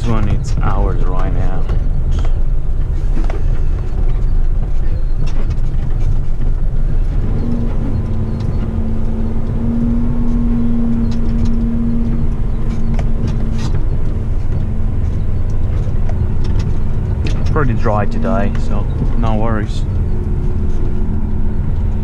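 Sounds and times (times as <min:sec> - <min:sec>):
light rattles: 0:00.0 - 0:22.0
steady droning tone: 0:00.0 - 0:22.0
truck diesel engine rumble: 0:00.0 - 0:22.0.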